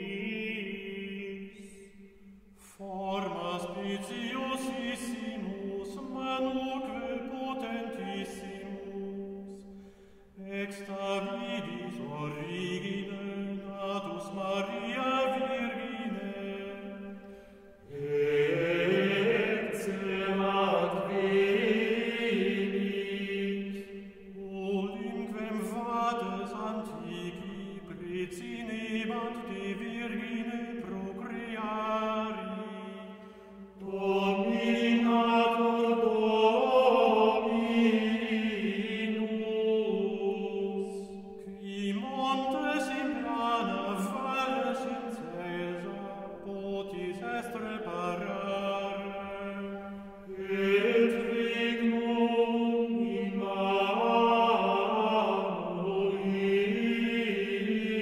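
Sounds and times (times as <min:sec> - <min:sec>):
vocal ensemble chanting: 0:00.0 - 0:58.0.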